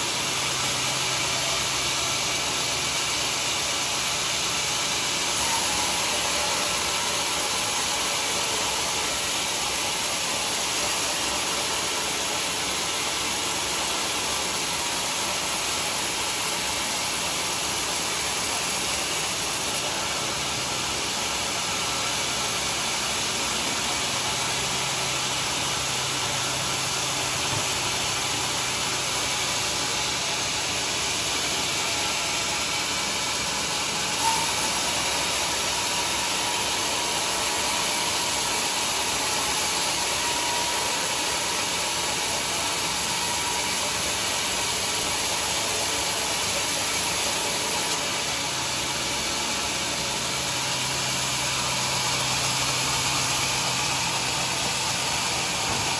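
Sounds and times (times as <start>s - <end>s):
sawmill machinery rushing: 3.8s - 55.9s.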